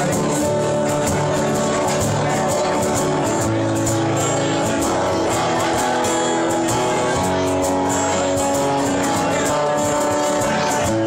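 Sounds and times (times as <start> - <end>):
drum kit beat: 0.0 - 11.0
strummed acoustic guitars: 0.0 - 11.0.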